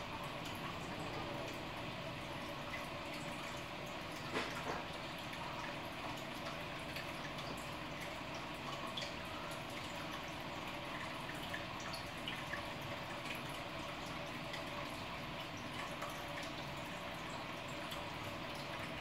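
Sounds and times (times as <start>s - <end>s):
aquarium water trickling: 0.0s - 19.0s
water drips and splashes: 0.0s - 19.0s.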